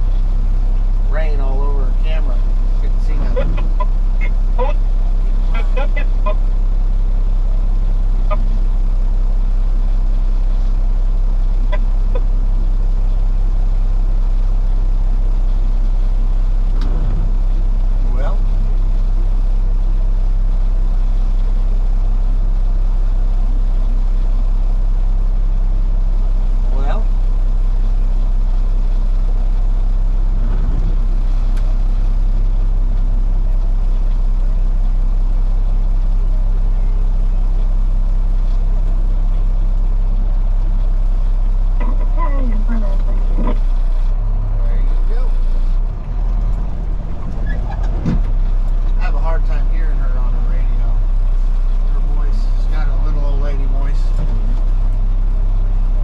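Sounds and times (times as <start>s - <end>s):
truck diesel engine droning: 0.0s - 56.0s.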